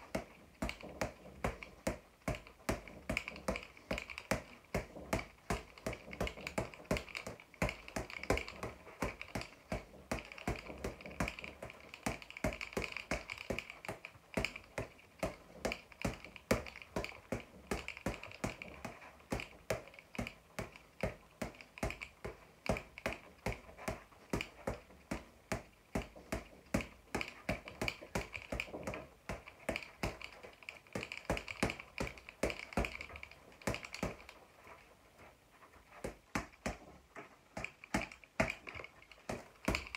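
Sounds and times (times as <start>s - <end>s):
boxing gloves punching a ball: 0.0s - 34.4s, 35.9s - 39.9s.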